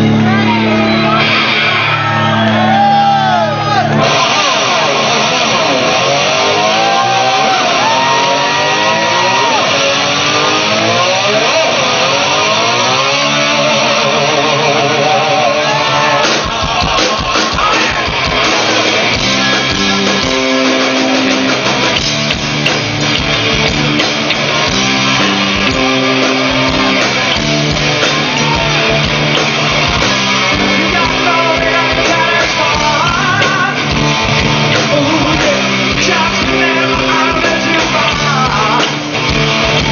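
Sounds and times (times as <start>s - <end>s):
drums and bass: 0.0s - 39.9s
electric guitars bending notes: 0.0s - 39.9s.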